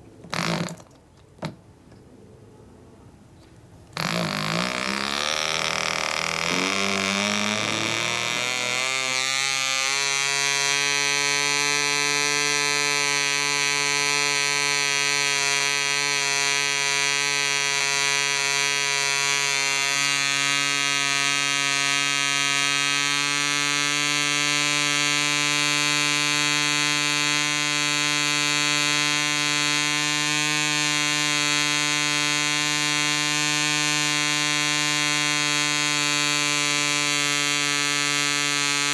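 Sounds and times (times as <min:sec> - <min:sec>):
model diesel engine running: 0:04.0 - 0:38.9.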